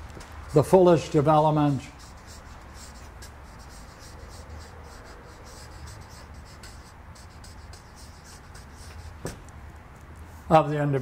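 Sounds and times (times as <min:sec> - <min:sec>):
low room hum: 0:00.0 - 0:11.0
marker pen scratching on paper: 0:00.2 - 0:09.4.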